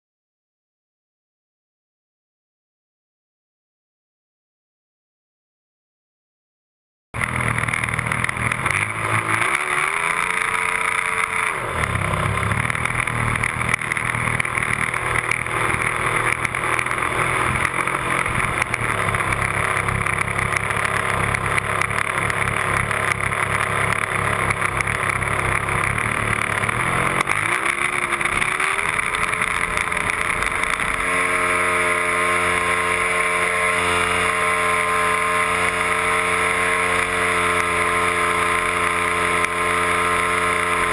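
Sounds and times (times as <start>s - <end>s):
model airplane engine revving: 7.2s - 40.9s.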